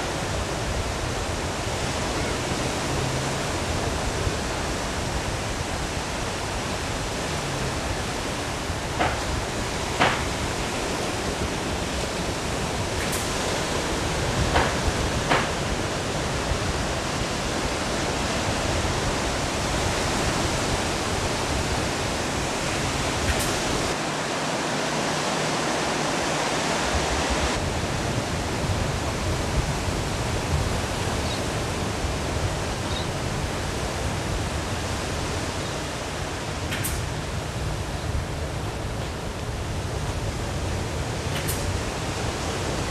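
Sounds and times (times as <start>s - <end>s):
wind on microphone: 0.0s - 24.0s, 25.8s - 42.9s
ocean surf: 0.0s - 42.9s.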